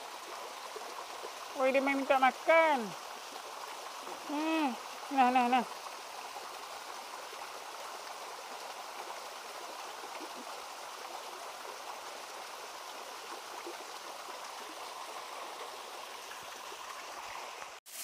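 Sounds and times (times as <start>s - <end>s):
stream water running: 0.0s - 18.0s.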